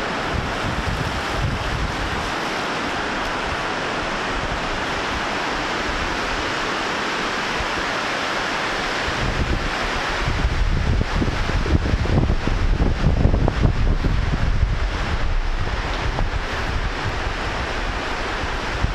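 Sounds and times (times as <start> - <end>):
wind on microphone: 0.0 - 18.9.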